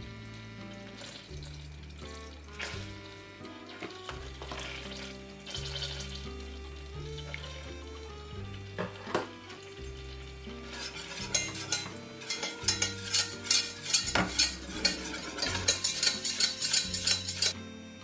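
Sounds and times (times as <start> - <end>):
whisk scraping saucepan: 0.0 - 17.6
low background music: 0.0 - 18.0.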